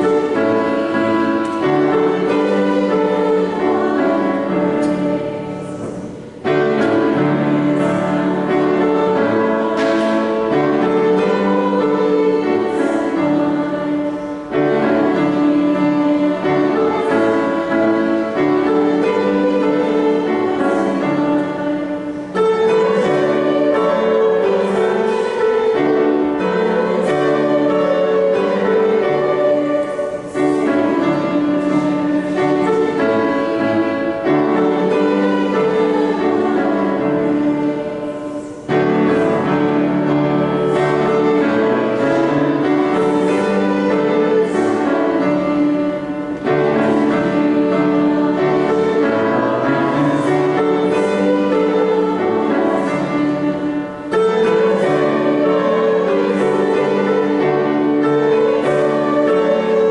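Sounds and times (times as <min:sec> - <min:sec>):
hymn singing: 0:00.0 - 0:59.9
piano accompaniment: 0:00.0 - 0:59.9.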